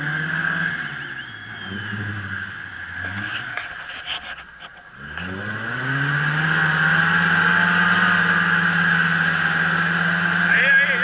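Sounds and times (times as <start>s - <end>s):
off-road engine revving hard: 0.0s - 3.8s, 4.9s - 11.0s
tyres churning through mud: 0.0s - 11.0s.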